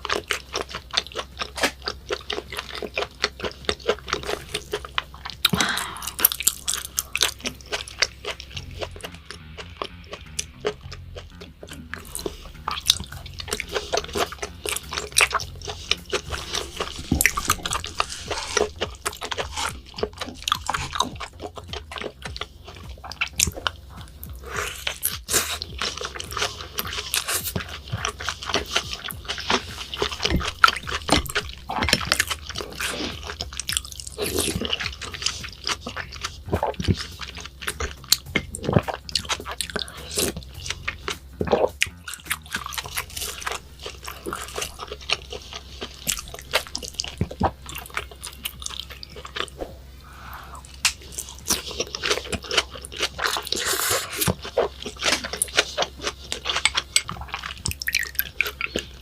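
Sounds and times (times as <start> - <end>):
food crunching: 0.0 - 59.0
wet chewing and biting: 0.0 - 59.0.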